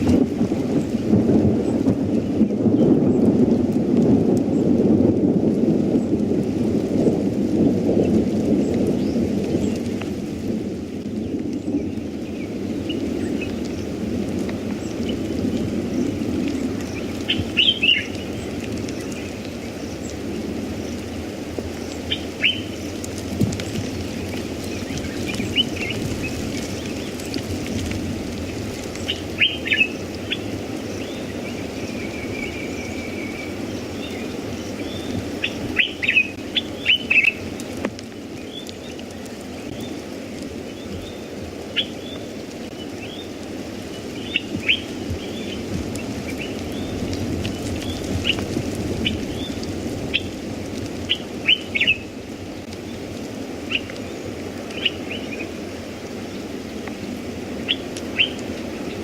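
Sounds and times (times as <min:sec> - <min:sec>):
low rush of wind: 0:00.0 - 0:59.0
wild birds chirping: 0:08.0 - 0:59.0.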